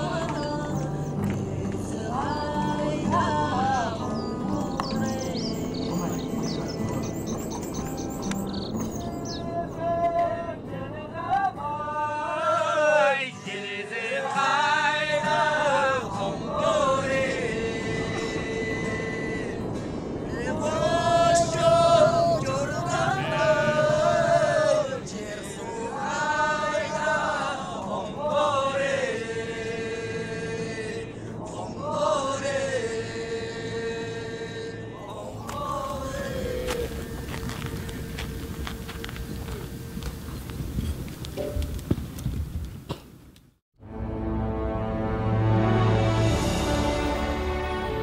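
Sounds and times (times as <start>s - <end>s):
person singing: 0.0s - 38.4s.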